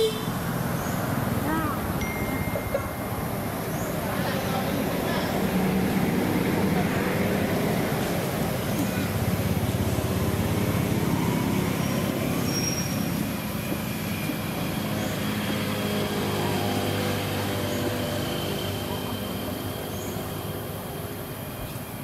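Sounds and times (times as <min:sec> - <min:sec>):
motor engine humming: 0:00.0 - 0:22.0.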